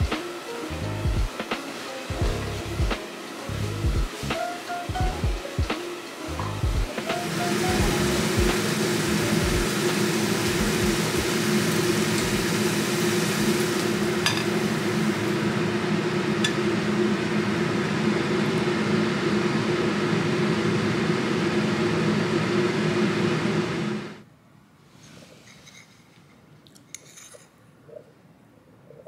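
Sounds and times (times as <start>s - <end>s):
fan whirring hum: 0.0s - 24.3s.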